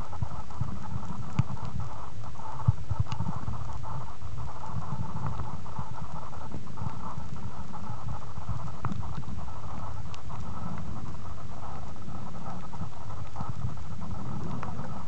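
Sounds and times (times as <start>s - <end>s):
mid-pitched hum: 0.0s - 15.0s
underwater low rumble with crackles: 0.0s - 15.0s.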